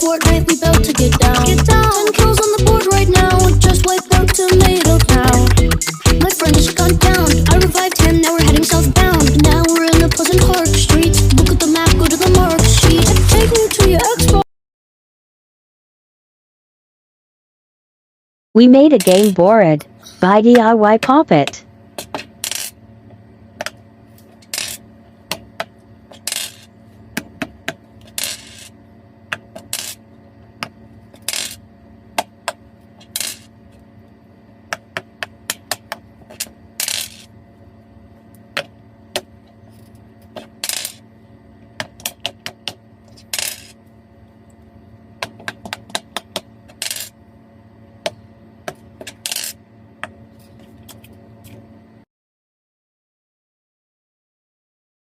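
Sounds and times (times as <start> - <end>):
faint steady hum: 0.0 - 14.4, 18.6 - 52.1.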